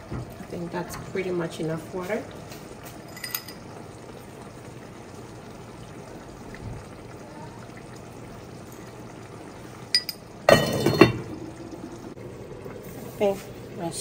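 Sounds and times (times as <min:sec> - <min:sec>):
water boiling and bubbling: 0:00.0 - 0:14.0.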